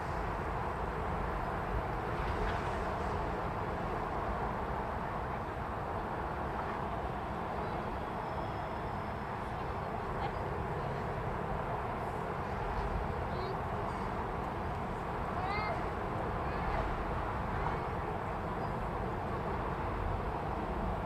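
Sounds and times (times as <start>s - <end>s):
train rolling past: 0.0s - 21.0s.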